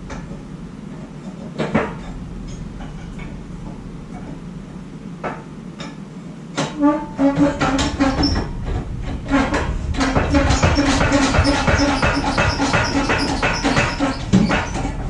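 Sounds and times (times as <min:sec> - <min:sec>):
knocks and clatters: 0:00.0 - 0:04.4, 0:06.6 - 0:15.0
steady low hum: 0:00.0 - 0:15.0.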